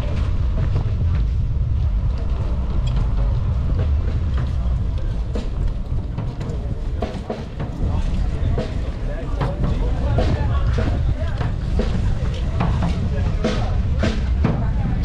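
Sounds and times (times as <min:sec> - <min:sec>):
bicycle tyres rolling on concrete: 0:00.0 - 0:15.0
faint passing voices: 0:00.0 - 0:15.0
wind rumble on microphone: 0:00.0 - 0:15.0.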